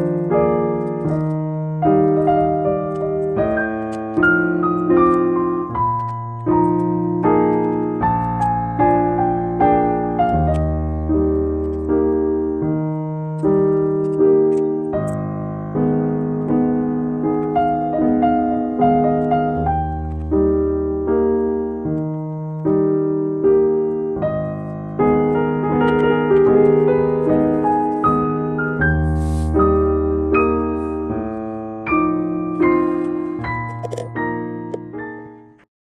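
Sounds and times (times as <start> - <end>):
slow piano chords: 0.0 - 35.7.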